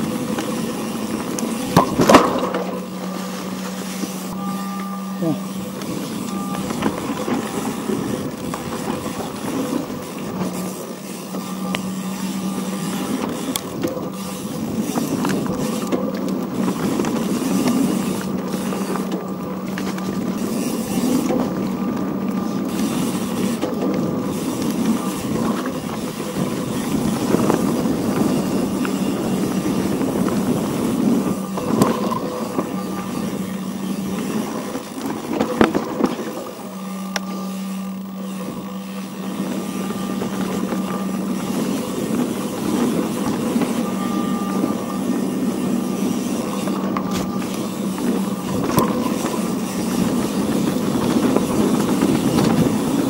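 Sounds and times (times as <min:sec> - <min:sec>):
off-road vehicle engine running: 0:00.0 - 0:53.0.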